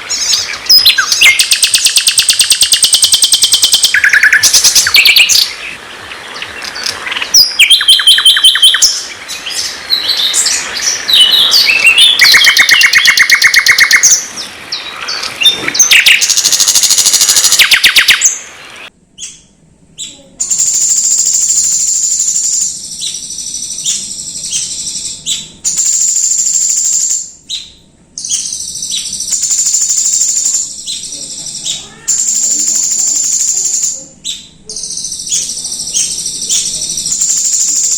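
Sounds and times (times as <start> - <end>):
recorded songbird song: 0.0 - 37.9.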